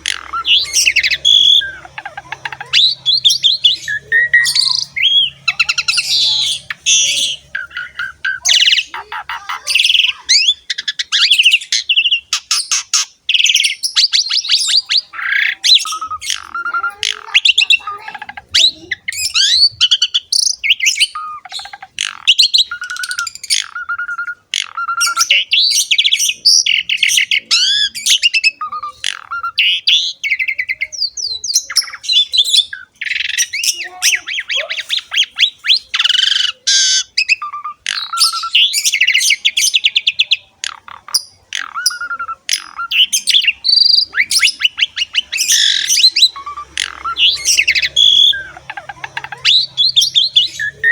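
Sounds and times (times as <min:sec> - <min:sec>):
starling singing: 0:00.0 - 0:50.9.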